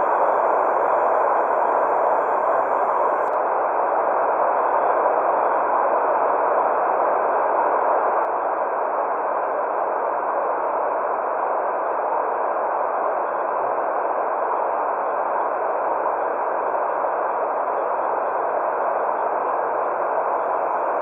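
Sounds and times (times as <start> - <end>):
muffled white noise hiss: 0.0 - 21.0.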